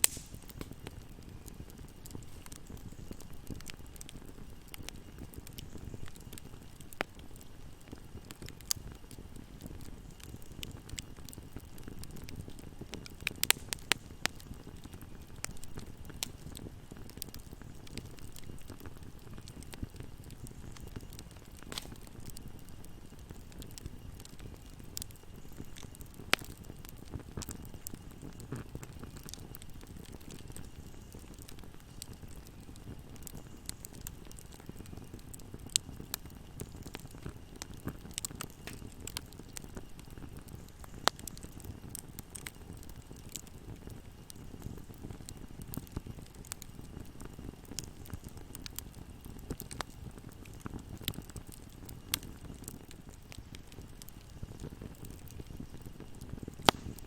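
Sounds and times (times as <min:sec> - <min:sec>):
fire crackling in fireplace: 0:00.0 - 0:57.0
sharp pops of burning wood: 0:00.0 - 0:57.0.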